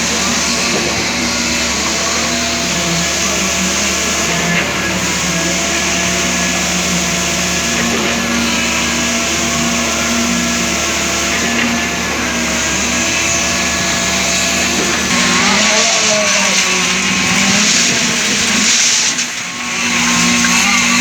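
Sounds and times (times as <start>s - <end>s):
heavy machinery engine drone: 0.0s - 21.0s.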